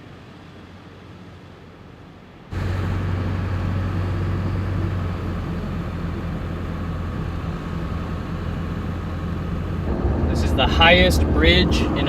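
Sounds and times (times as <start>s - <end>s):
truck engine hum: 0.0s - 12.0s
tyre and road noise: 0.0s - 12.0s.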